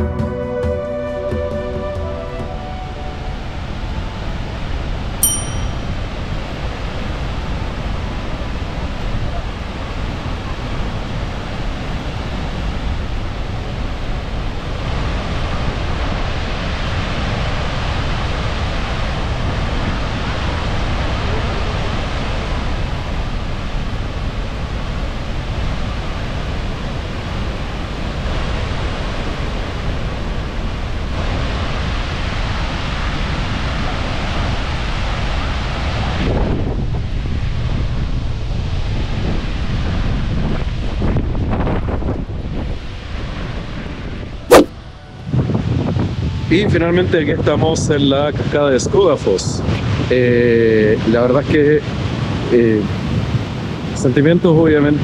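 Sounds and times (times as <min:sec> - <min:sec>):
wind buffeting microphone: 0:02.7 - 0:54.0.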